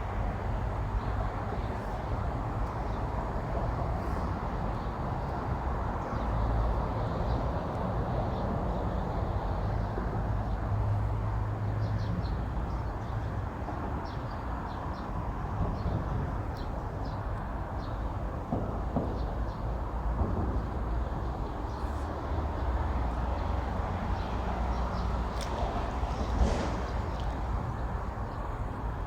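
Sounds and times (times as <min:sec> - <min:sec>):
traffic rumble on bridge: 0:00.0 - 0:29.0.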